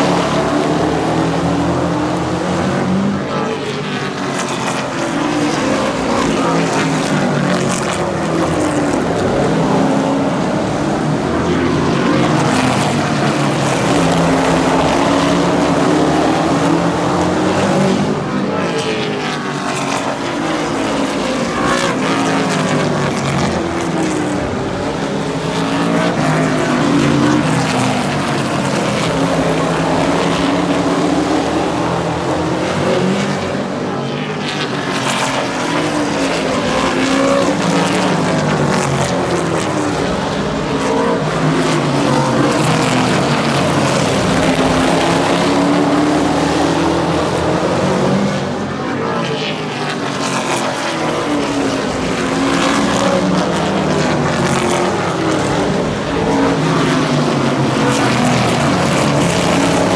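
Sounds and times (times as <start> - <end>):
racing truck engines passing: 0.0 - 59.9.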